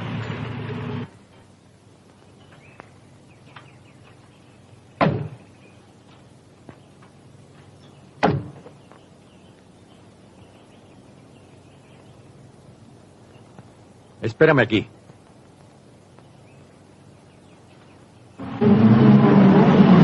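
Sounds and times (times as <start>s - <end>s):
faint steady hiss: 0.0s - 18.7s.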